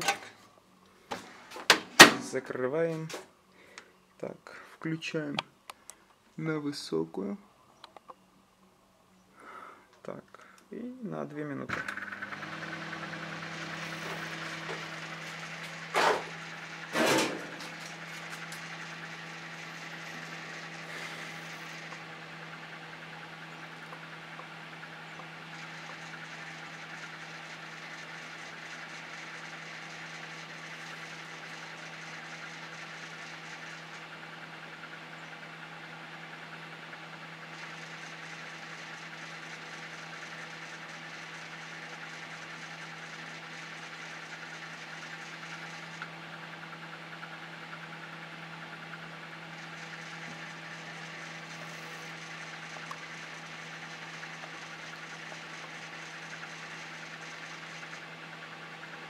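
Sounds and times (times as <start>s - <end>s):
microwave oven electrical hum: 5.2s - 59.0s.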